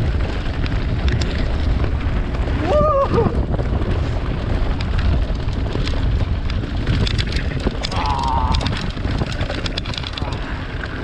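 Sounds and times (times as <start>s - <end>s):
bike tyres crunching over gravel: 0.0s - 11.0s
stones and bike rattling: 0.0s - 11.0s
wind buffeting microphone: 0.0s - 11.0s.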